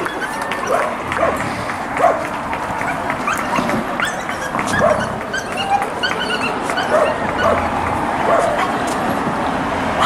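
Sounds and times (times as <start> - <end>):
dog barking and yipping: 0.0 - 1.4, 2.0 - 8.8.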